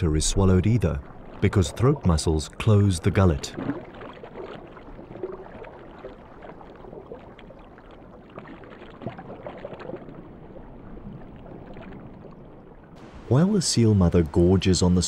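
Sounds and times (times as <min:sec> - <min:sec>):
muffled underwater water wash: 0:00.0 - 0:15.0.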